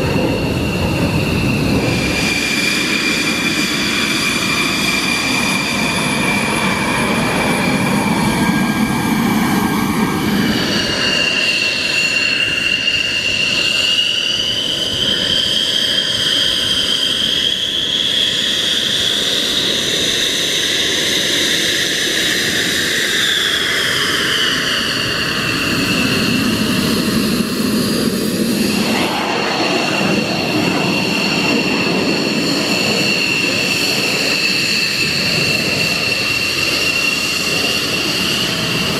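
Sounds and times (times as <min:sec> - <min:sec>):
high gliding whine: 0:00.0 - 0:38.9
jet engines roaring: 0:00.0 - 0:38.9.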